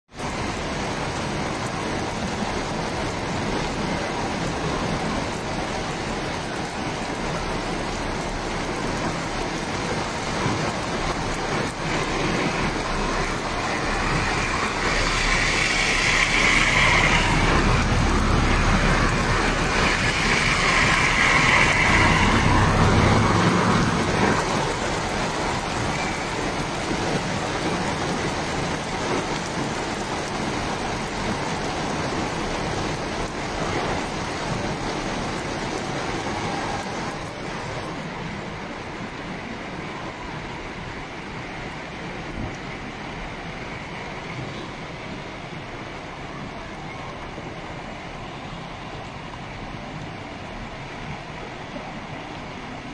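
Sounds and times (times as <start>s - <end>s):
car passing on wet road: 0.1s - 52.9s
steady rain falling: 0.1s - 52.9s.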